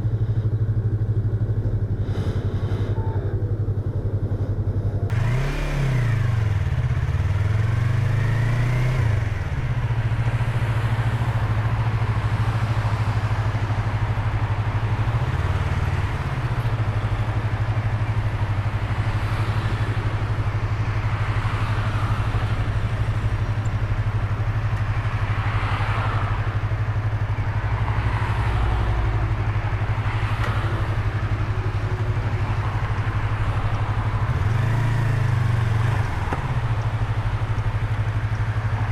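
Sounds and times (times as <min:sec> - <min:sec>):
motorcycle engine revving: 0:03.3 - 0:38.9.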